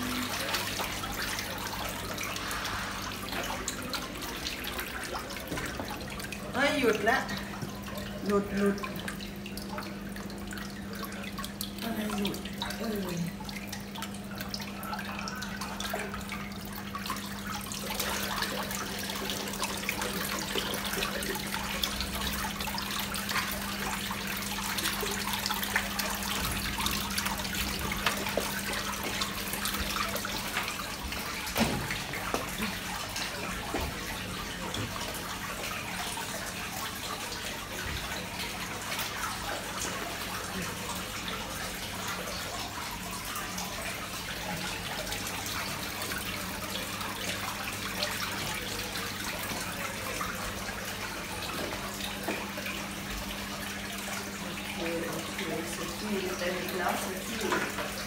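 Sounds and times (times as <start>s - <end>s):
water splashing and dripping: 0.0s - 58.0s.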